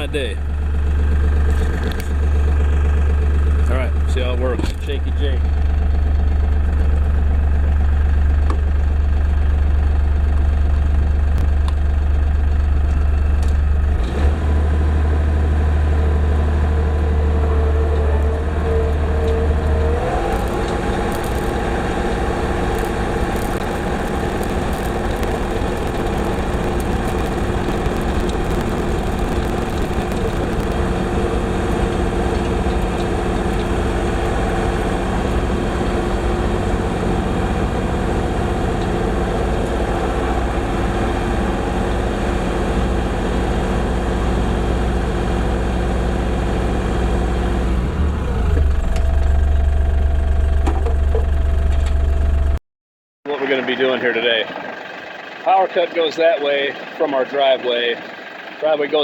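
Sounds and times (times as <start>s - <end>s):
tractor engine running: 0.0s - 52.6s, 53.3s - 59.0s.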